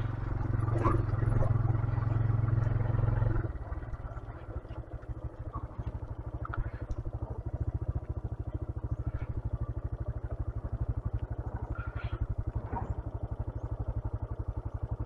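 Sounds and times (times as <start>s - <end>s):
motorcycle engine running at low revs: 0.0s - 15.0s
faint clicks and rattles: 2.6s - 15.0s.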